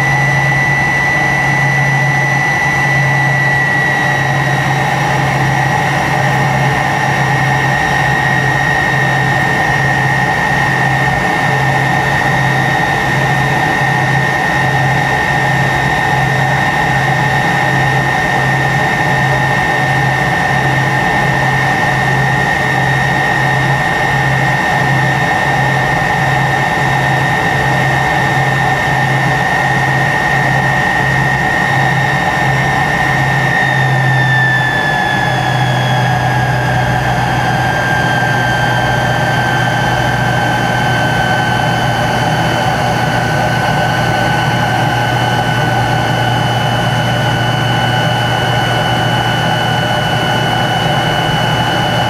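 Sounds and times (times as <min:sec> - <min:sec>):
jet engine roar and whine: 0:00.0 - 0:52.0.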